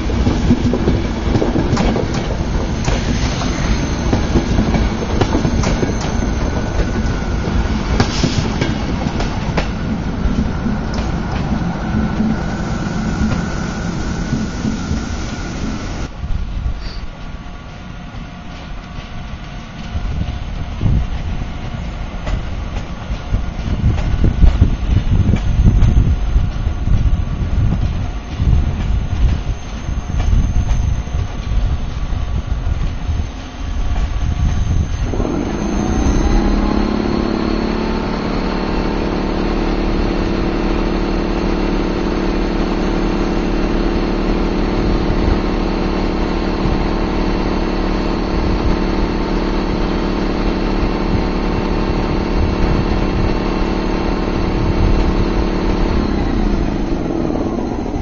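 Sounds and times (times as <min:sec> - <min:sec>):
train carriages rumbling past: 0:00.0 - 0:58.0
train machine drone: 0:00.0 - 0:58.0.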